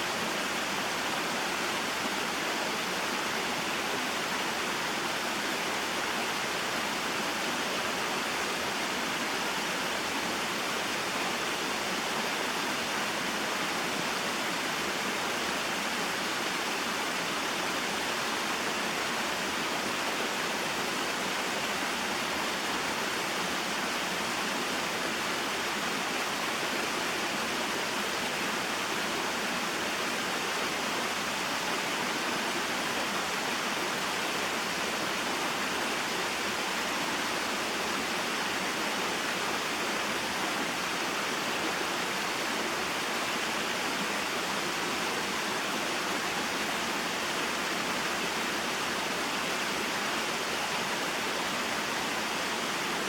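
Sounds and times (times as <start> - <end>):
stream and waterfall rushing: 0.0 - 53.0.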